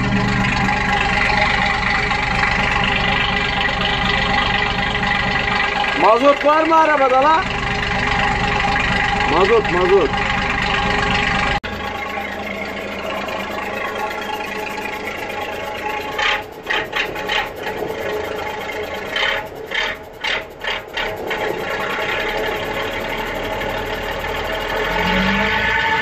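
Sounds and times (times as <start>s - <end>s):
knocks and rattles: 0.0s - 25.4s
diesel engine idling: 0.0s - 26.0s.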